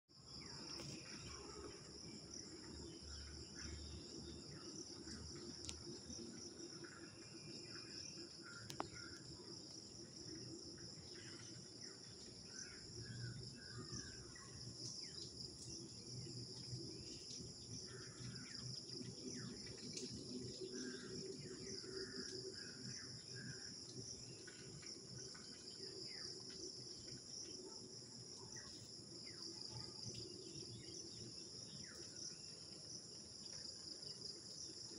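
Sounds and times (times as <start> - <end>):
high-pitched insect chorus: 0.2 - 34.9.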